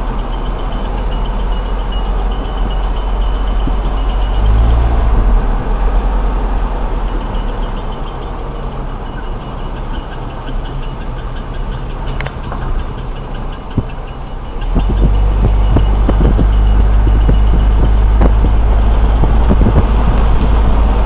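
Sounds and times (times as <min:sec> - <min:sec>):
fast high-pitched clicking: 0:00.0 - 0:05.1, 0:06.4 - 0:21.0
car road and engine rumble: 0:00.0 - 0:21.0.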